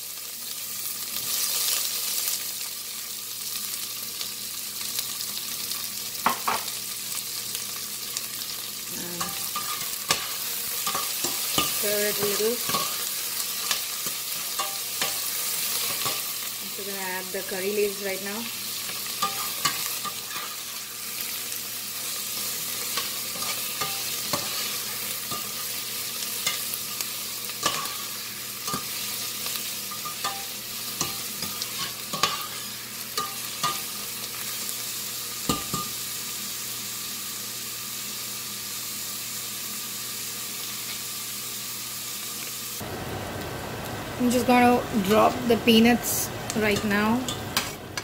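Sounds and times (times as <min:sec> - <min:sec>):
onions sizzling in hot oil: 0:00.0 - 0:48.0.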